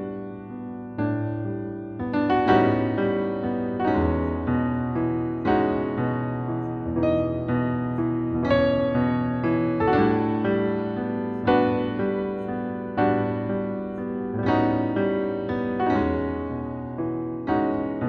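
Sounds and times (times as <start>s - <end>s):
slow gentle piano: 0.0s - 18.0s.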